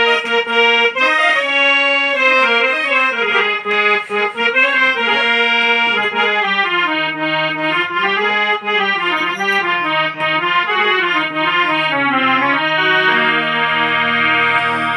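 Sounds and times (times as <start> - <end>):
harmonium melody: 0.0 - 14.9.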